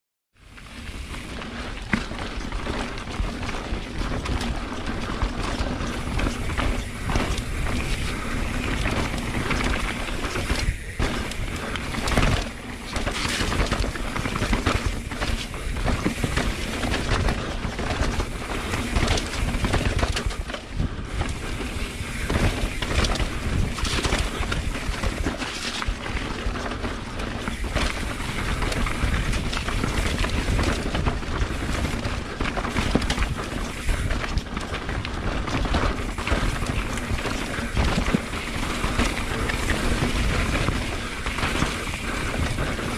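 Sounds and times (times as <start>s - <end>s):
bike rattling over roots: 0.4s - 42.9s
bike tyres rolling on dirt: 0.4s - 42.9s
steady rushing noise: 0.4s - 42.9s.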